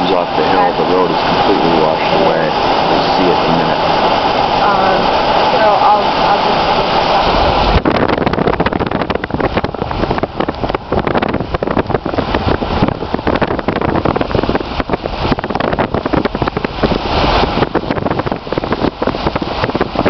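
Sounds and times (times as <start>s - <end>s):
rushing flooded river: 0.0s - 20.0s
wind buffeting microphone: 0.0s - 20.0s.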